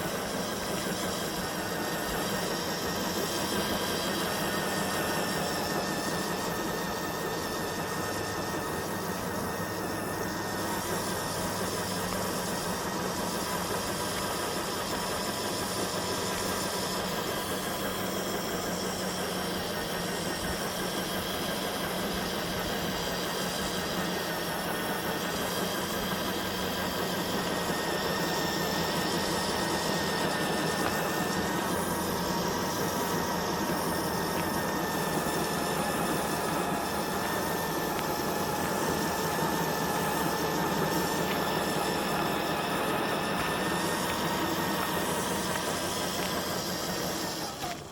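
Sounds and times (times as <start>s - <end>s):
toy truck electric motor whining: 0.0s - 47.9s.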